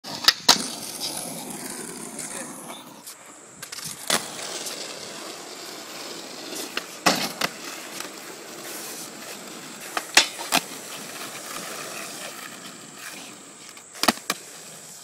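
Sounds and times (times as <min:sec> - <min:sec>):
skateboard wheels rolling on asphalt: 0:00.0 - 0:15.0
skateboard clacking on pavement: 0:00.1 - 0:15.0.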